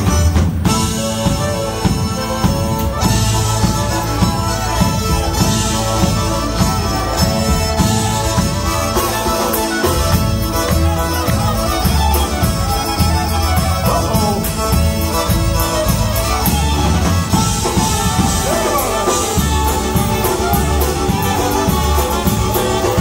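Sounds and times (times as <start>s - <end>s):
polka band playing: 0.0s - 23.0s.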